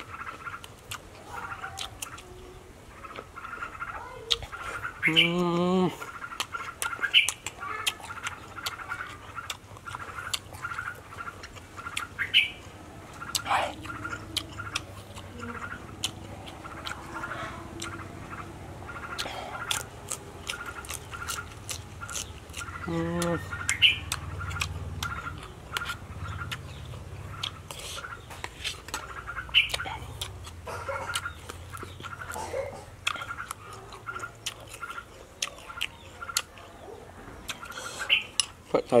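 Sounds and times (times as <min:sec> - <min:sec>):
chewing and mouth smacking: 0:00.0 - 0:02.4, 0:03.0 - 0:38.8
bird chirping: 0:00.0 - 0:39.0.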